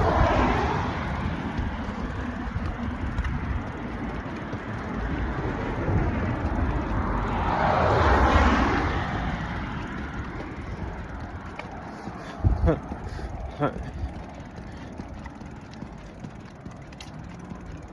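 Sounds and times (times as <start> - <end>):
rumbling ride noise: 0.0 - 17.9
vehicle passing: 0.0 - 17.9.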